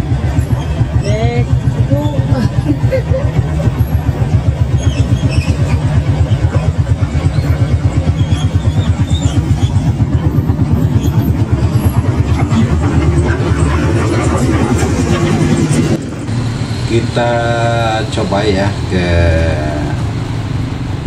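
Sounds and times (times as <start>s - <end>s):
diesel excavator engine: 0.0s - 21.0s
motorcycle engine chugging: 0.0s - 21.0s.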